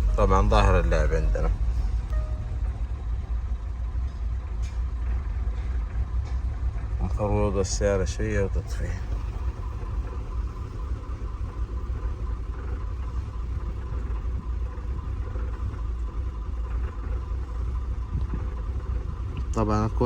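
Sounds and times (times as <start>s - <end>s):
car engine idling unevenly: 0.0s - 20.0s.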